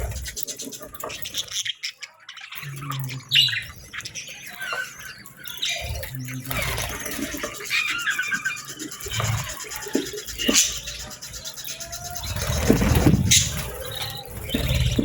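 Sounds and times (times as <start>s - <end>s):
small birds chirping and squawking: 0.0s - 15.0s.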